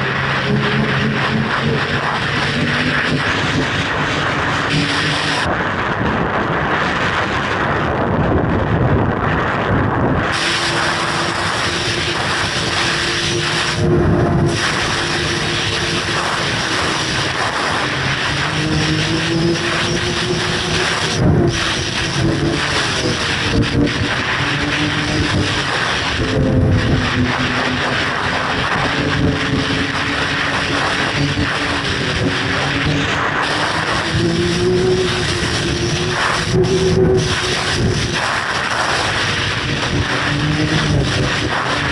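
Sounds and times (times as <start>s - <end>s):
snowmobile engine running: 0.0s - 41.9s
track noise: 0.0s - 41.9s
wind noise: 0.0s - 41.9s.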